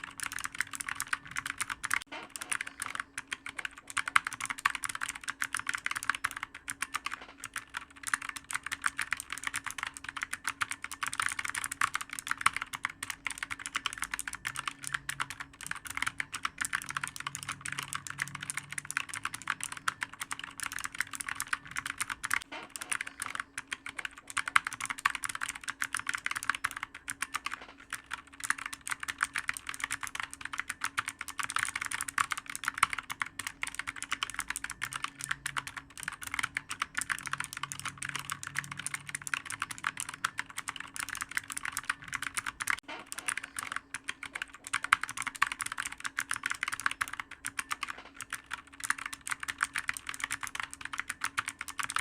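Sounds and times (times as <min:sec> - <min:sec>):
clicky keyboard typing: 0:00.0 - 0:52.0.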